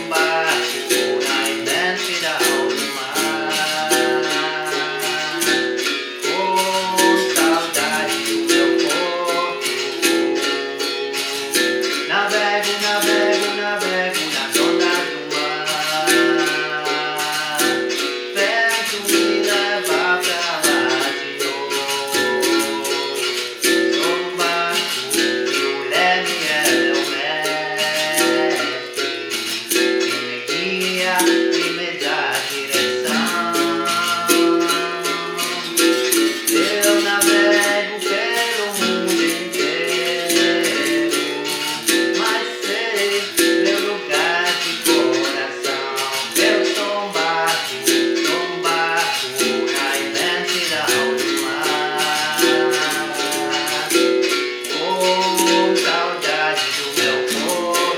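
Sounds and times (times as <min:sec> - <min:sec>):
berimbau playing a rhythm: 0:00.0 - 0:57.9
percussion: 0:00.0 - 0:57.9
person singing: 0:00.0 - 0:57.9.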